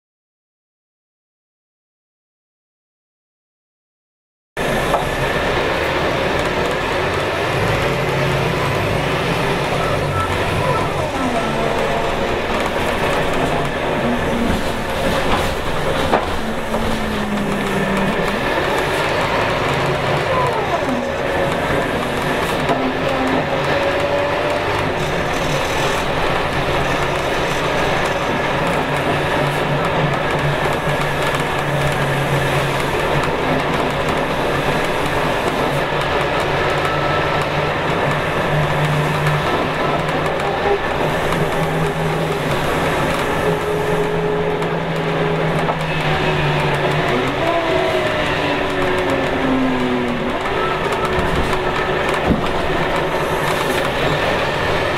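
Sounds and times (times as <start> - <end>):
bus diesel engine running: 4.6 - 54.9
road rumble: 4.6 - 54.9.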